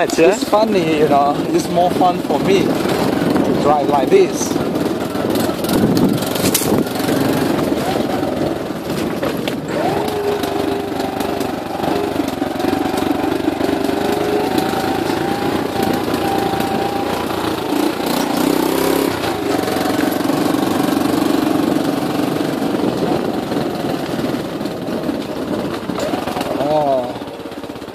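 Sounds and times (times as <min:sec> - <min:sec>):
motorbike engine running: 0:00.0 - 0:27.9.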